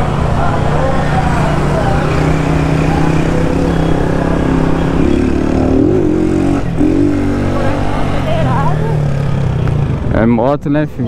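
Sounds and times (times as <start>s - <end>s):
motorcycle engine revving: 0.0s - 10.3s.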